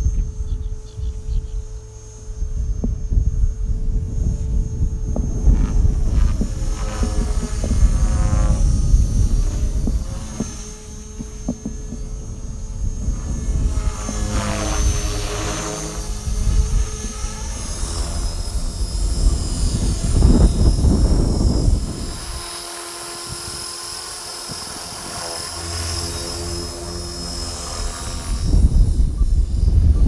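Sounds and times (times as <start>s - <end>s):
rc helicopter rotor whine: 0.0s - 30.0s
wind buffeting microphone: 0.0s - 30.0s.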